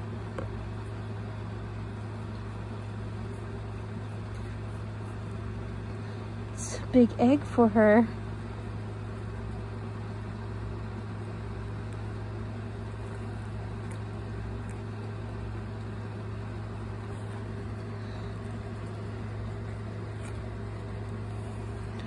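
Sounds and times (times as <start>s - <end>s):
fan motor humming: 0.0s - 22.0s.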